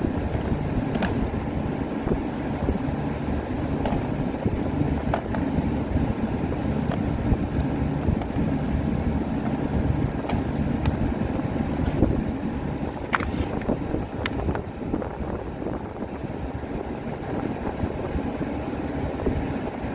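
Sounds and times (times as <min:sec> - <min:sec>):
refrigeration unit humming: 0:00.0 - 0:19.9.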